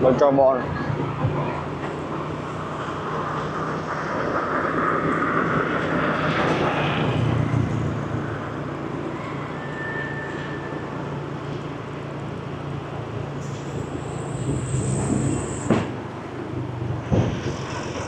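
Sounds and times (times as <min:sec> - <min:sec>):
street traffic engine hum: 0:00.0 - 0:18.0.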